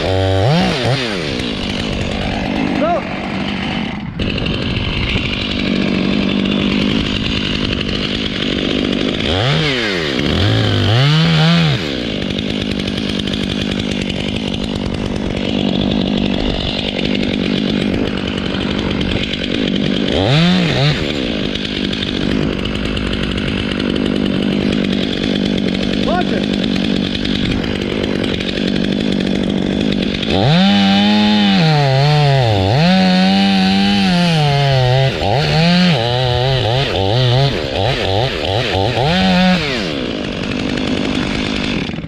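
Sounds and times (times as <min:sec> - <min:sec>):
chainsaw revving: 0:00.0 - 0:42.0.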